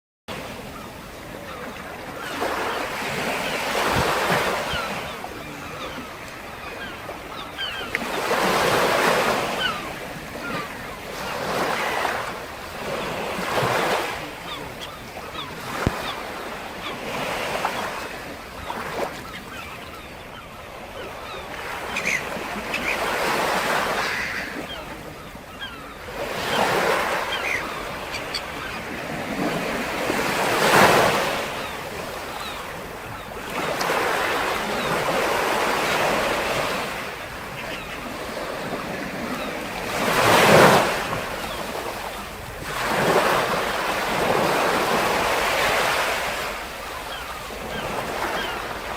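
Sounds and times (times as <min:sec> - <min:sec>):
sea waves breaking on shore: 0:00.3 - 0:48.9.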